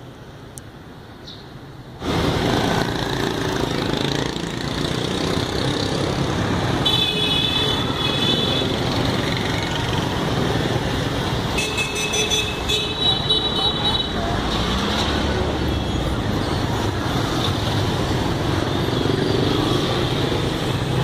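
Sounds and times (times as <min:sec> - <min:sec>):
scooters and cars passing: 0:00.0 - 0:21.0.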